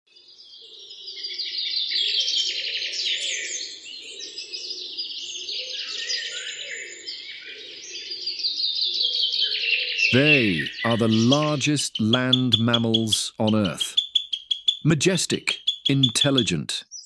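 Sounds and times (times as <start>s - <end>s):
many birds chirping: 0.1s - 17.0s.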